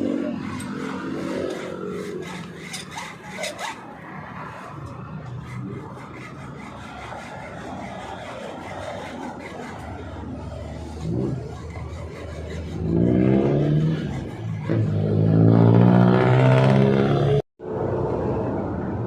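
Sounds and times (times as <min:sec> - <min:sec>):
tool scraping hard surface: 0:00.0 - 0:15.7.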